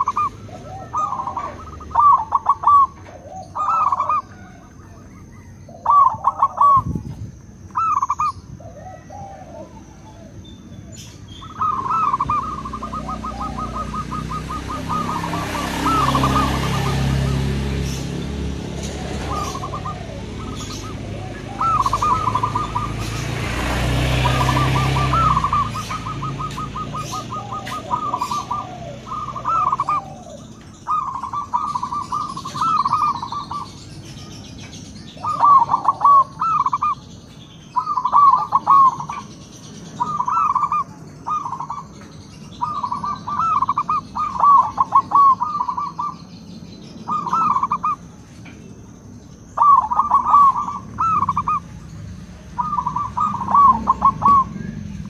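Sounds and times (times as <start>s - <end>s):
lower-pitched dove cooing: 0.0s - 7.1s, 7.7s - 10.5s, 11.4s - 17.8s, 18.9s - 23.0s, 24.1s - 33.7s, 35.2s - 37.0s, 37.8s - 39.2s, 40.0s - 41.8s, 42.6s - 46.2s, 47.1s - 48.0s, 49.6s - 51.7s, 52.3s - 55.0s
doves cooing: 0.0s - 37.0s, 37.7s - 46.4s, 47.0s - 48.2s, 49.6s - 55.0s.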